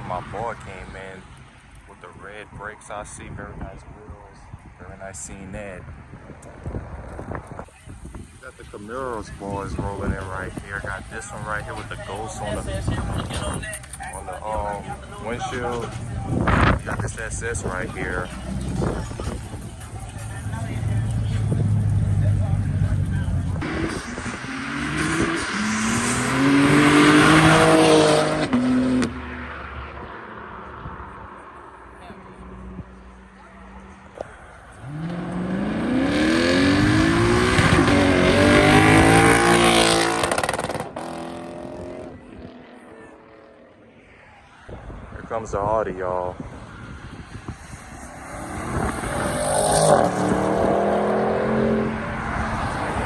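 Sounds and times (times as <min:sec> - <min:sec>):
car engine revving: 0:08.7 - 0:44.0, 0:45.5 - 0:53.0.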